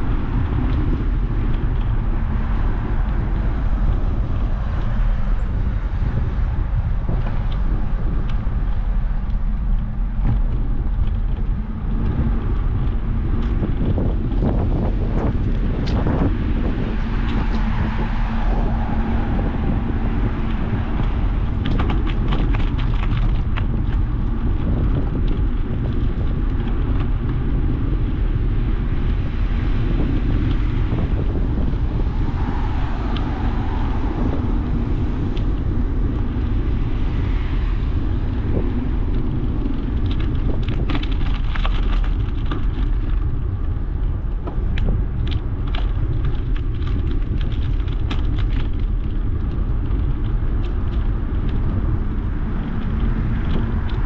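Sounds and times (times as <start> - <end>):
wind rumbling on microphone: 0.0 - 54.0
bicycle clicks and rattles: 0.1 - 31.8, 34.2 - 54.0.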